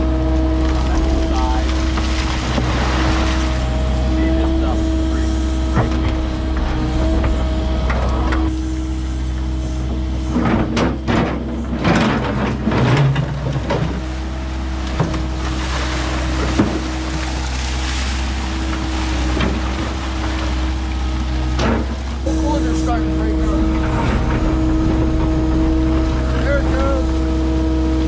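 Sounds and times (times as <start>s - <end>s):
excavator diesel engine running: 0.0s - 28.0s
hydraulic whine: 0.0s - 28.0s.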